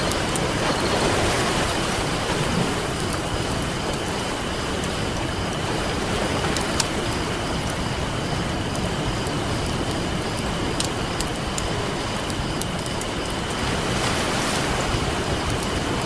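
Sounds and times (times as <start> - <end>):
campfire crackling and popping: 0.0 - 13.8, 14.8 - 16.0
ocean surf: 0.0 - 16.0.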